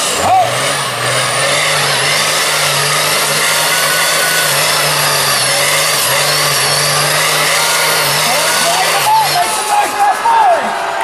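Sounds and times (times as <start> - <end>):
monster truck engines at high revs: 0.0 - 11.0.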